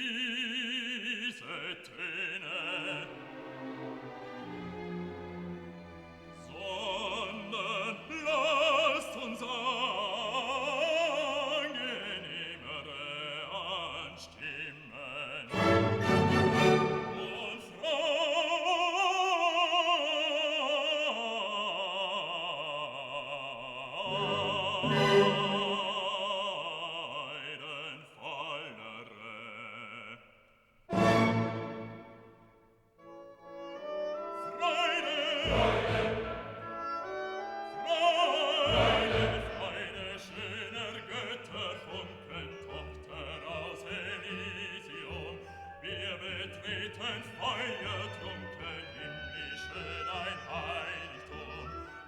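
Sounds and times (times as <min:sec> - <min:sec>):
opera singer with vibrato: 0:00.0 - 0:03.4, 0:06.4 - 0:30.3, 0:33.8 - 0:52.0.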